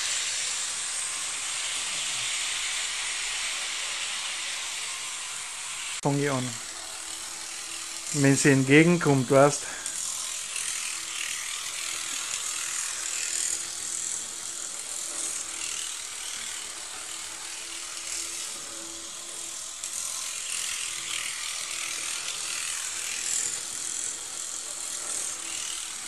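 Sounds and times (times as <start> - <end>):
model train motor whirring: 0.0 - 26.0.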